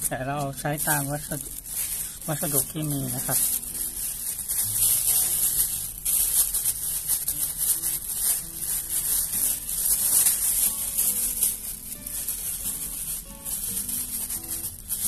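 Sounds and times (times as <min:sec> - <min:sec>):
faint background music: 0:00.0 - 0:15.0
steady high hiss: 0:00.0 - 0:15.0.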